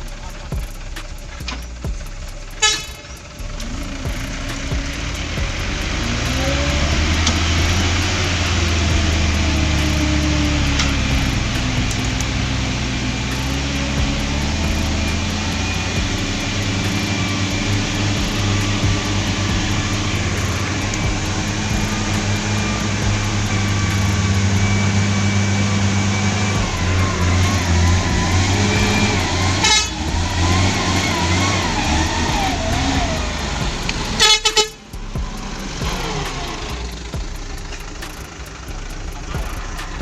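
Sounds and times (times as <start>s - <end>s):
truck engine running: 0.0s - 40.0s
truck horn toots: 0.0s - 40.0s.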